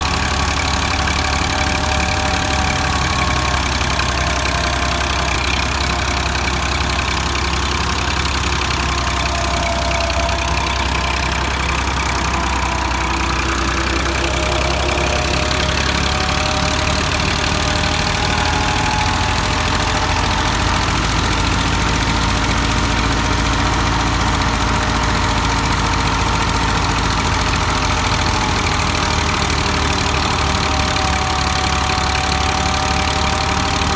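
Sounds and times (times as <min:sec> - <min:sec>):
tractor diesel engine running: 0:00.0 - 0:33.9
faint wavering whine: 0:00.9 - 0:28.5.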